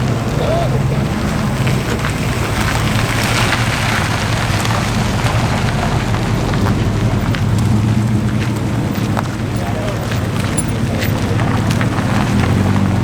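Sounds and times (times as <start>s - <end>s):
car engines rumbling at low revs: 0.0s - 13.0s.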